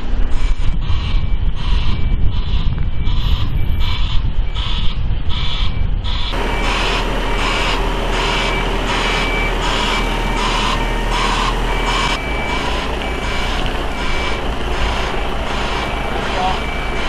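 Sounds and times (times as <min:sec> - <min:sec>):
diesel truck engine rumble: 0:00.0 - 0:17.0
reversing alarm beeping: 0:00.4 - 0:17.0.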